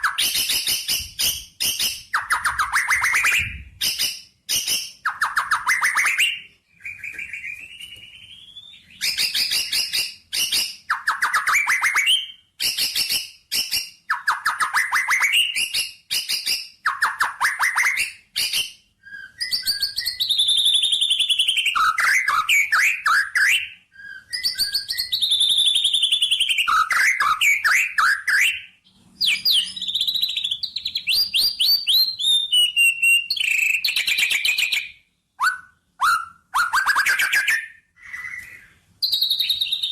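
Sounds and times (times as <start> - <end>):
bird whistled notes: 0.0 - 39.9.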